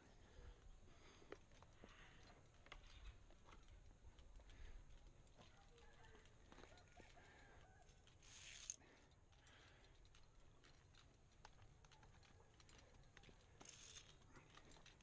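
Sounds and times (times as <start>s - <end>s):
faint clicks: 1.3s - 15.0s.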